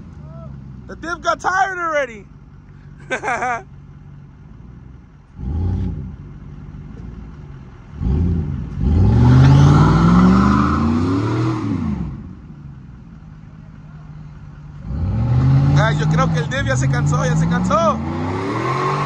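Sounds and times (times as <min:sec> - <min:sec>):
truck engine revving: 0:00.0 - 0:12.5, 0:14.1 - 0:19.0.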